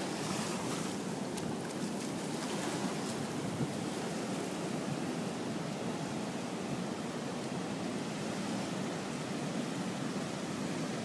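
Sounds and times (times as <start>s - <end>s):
ocean surf washing on sand: 0.0s - 11.0s.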